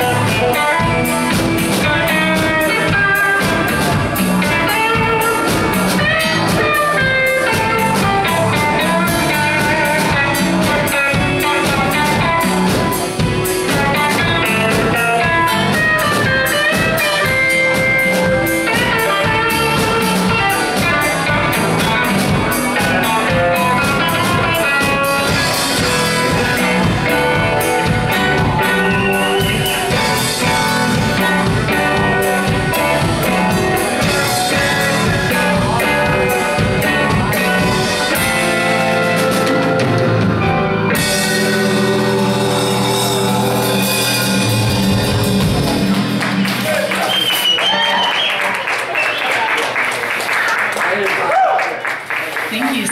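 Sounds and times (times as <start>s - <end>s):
drumbeat: 0.0s - 48.1s
live rock band playing: 0.0s - 51.2s, 51.8s - 52.9s.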